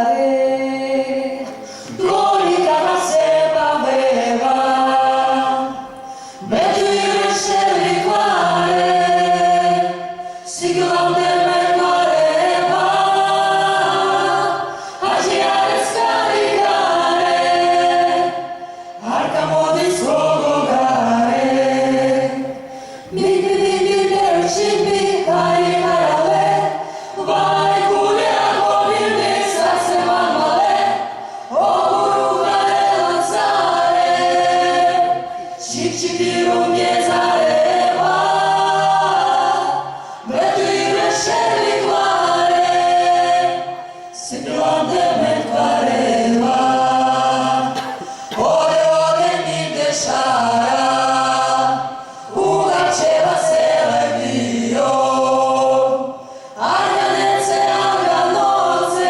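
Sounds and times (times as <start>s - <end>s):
vocal ensemble singing in harmony: 0.0s - 59.0s.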